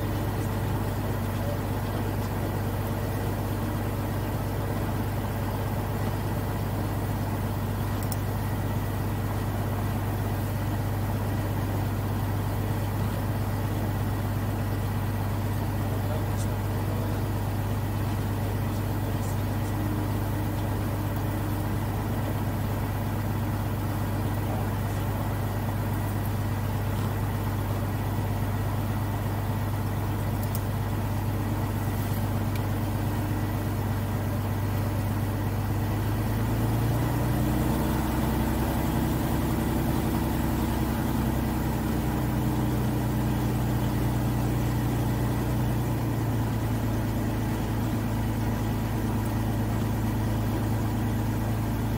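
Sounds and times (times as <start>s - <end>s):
light aircraft piston engine: 0.0s - 51.9s.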